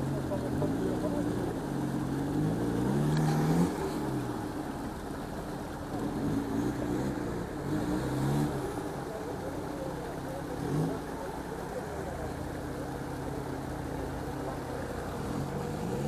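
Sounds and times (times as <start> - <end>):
off-road engine revving: 0.0 - 16.0.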